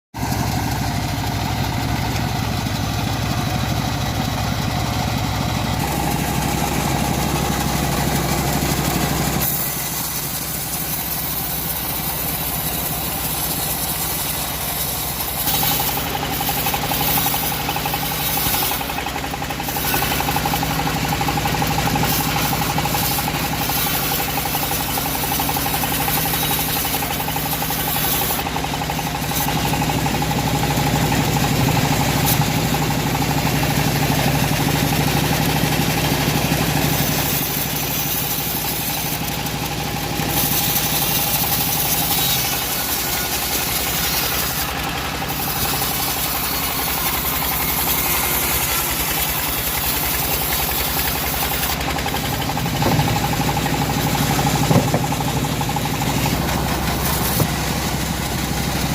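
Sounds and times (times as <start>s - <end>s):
band sawmill drone: 0.2s - 58.9s.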